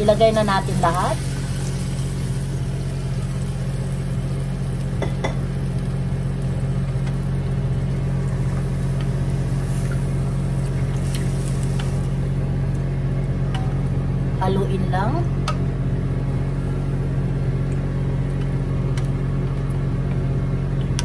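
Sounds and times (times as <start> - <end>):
chicken sizzling in a frying pan: 0.0 - 20.8
steady low hum: 0.0 - 21.0.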